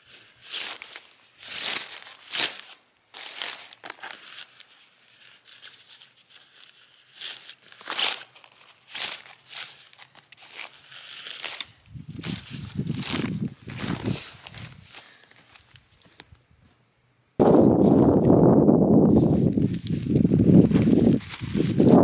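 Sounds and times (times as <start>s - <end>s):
tent fabric rustling: 0.0s - 16.2s, 17.4s - 18.4s, 19.0s - 22.0s.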